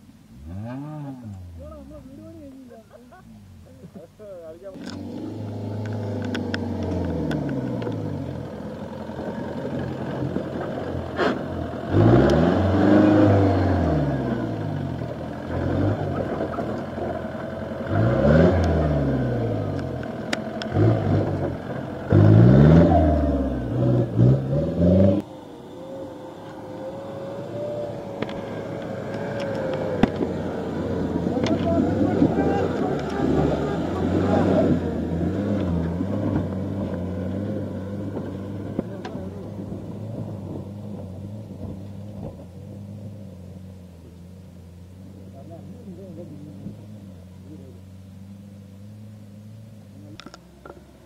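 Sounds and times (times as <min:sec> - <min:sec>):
jeep engine revving: 0:00.0 - 0:51.0.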